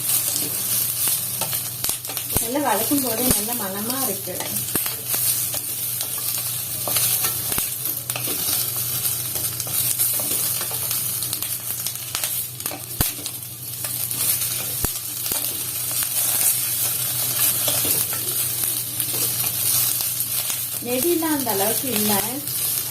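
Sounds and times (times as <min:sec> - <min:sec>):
peppers sizzling in hot oil: 0:00.0 - 0:22.9.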